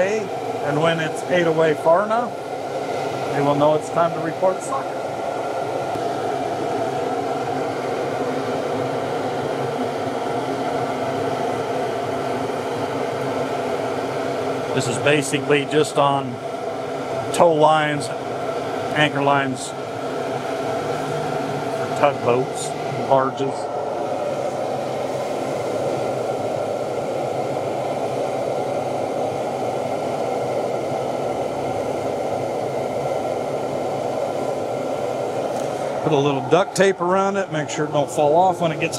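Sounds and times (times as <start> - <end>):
machinery whirring and humming: 0.0 - 38.9
steady blowing noise: 0.0 - 38.9.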